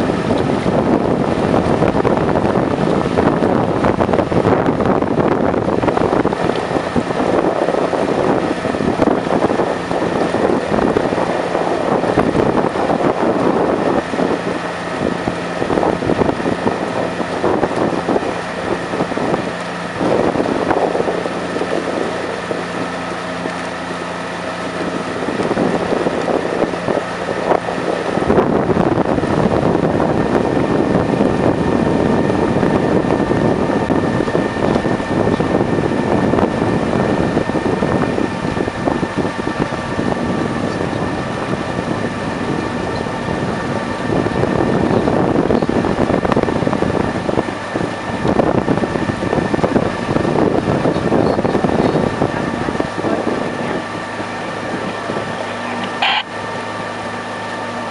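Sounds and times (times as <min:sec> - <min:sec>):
outboard motor running: 0:00.0 - 0:57.9
wind on microphone: 0:00.0 - 0:57.9.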